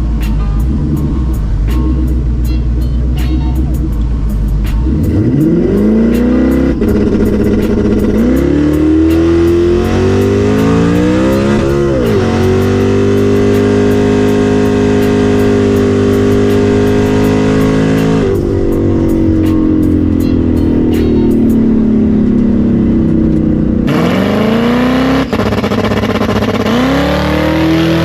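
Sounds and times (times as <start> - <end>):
car engine revving at full throttle: 0.0 - 28.0.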